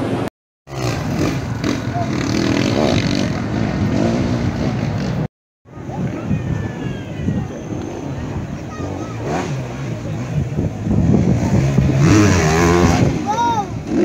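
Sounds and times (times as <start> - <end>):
motorcycle engines revving: 0.0 - 14.0
crowd chatter: 0.9 - 5.1, 5.7 - 14.0.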